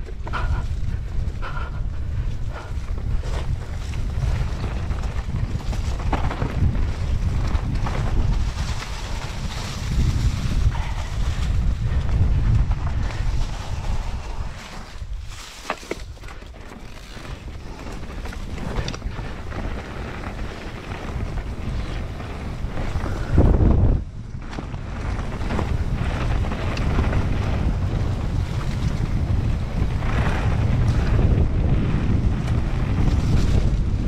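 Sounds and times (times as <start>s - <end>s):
wind buffeting microphone: 0.0s - 34.0s
tyres rolling on grass and leaves: 3.1s - 34.0s.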